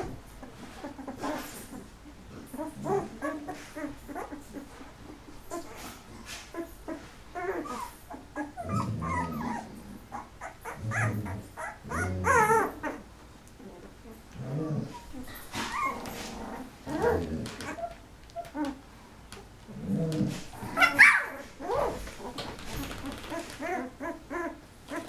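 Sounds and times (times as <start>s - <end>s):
puppies whimpering and squealing: 0.0s - 19.5s, 20.1s - 25.0s.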